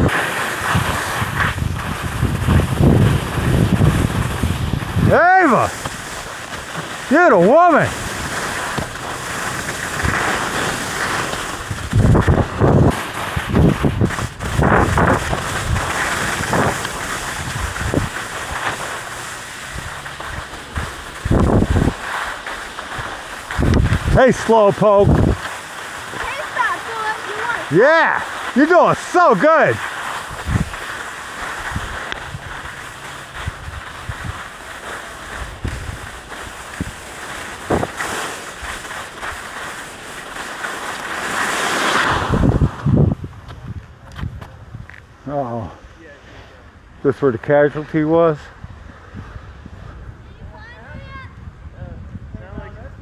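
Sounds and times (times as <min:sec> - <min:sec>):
wind rushing over microphone: 0:00.0 - 0:40.3, 0:41.0 - 0:53.0
skis scraping over snow: 0:00.0 - 0:51.2.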